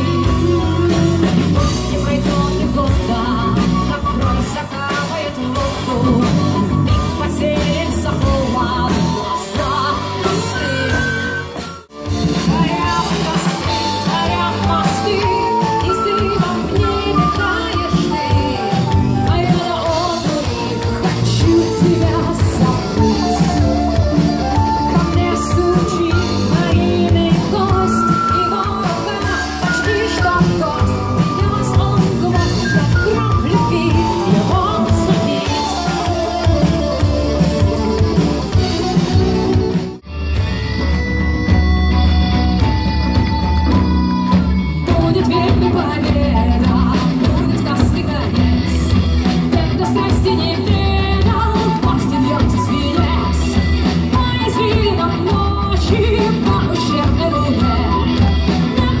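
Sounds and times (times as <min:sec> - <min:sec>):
bass guitar: 0:00.0 - 0:59.0
drum kit: 0:00.0 - 0:59.0
electric guitars: 0:00.0 - 0:59.0
melodic lead guitar line: 0:00.0 - 0:59.0.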